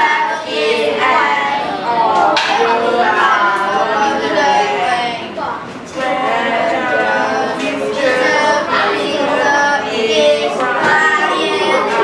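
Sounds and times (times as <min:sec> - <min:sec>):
boys chanting in unison: 0:00.0 - 0:12.0.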